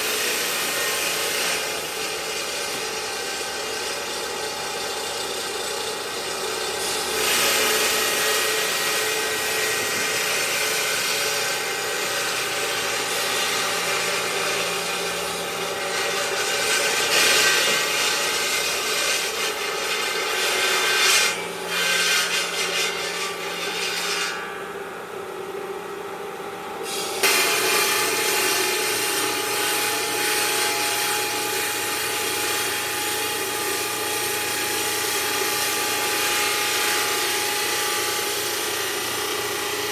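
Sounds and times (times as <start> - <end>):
machine grinding marble: 0.0 - 24.7, 26.9 - 39.9.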